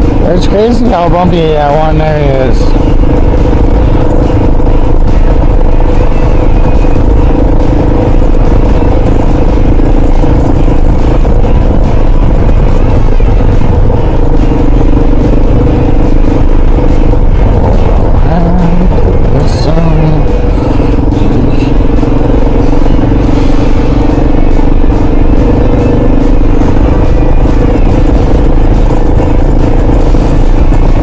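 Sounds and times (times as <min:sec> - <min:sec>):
low rumble of wind and road: 0:00.0 - 0:31.0
motorcycle engine running: 0:00.0 - 0:31.0.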